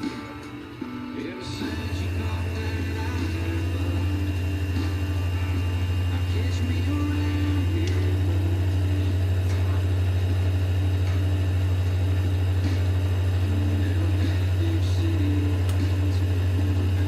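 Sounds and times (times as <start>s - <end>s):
lathe motor humming: 0.0s - 17.0s.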